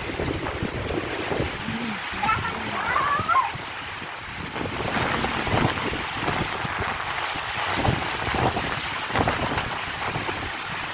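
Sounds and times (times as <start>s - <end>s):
heavy rain pouring: 0.0s - 10.9s
wind buffeting microphone: 0.0s - 10.9s.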